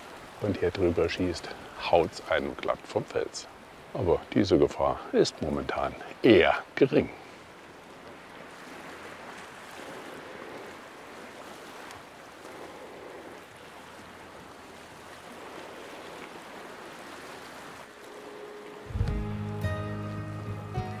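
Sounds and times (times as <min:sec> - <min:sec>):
sea surf washing against rocks: 0:00.0 - 0:19.2.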